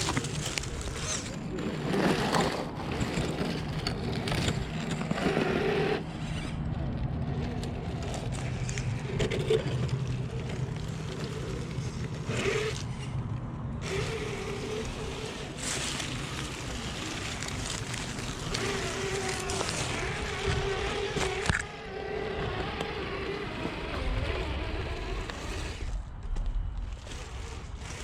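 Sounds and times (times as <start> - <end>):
toy truck motor whining: 0.0 - 13.2, 13.8 - 26.1, 26.8 - 28.0
steady rough noise: 0.0 - 28.0.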